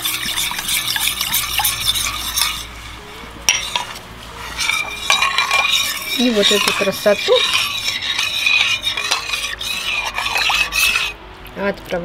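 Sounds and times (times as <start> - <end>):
utensil stirring and clinking: 0.0 - 11.2.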